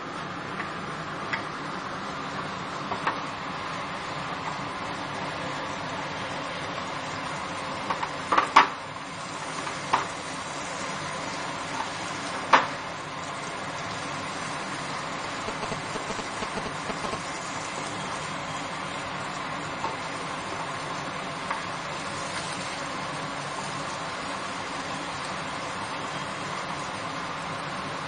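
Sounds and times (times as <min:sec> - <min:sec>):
curry sizzling in oil: 0:00.0 - 0:28.0.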